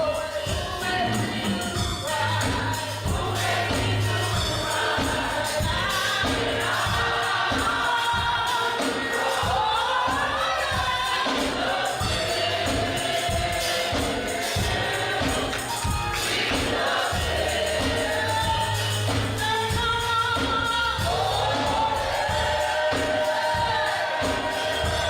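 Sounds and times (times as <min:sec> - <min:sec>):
gospel choir singing: 0:00.0 - 0:25.0
percussion beat: 0:00.0 - 0:25.0.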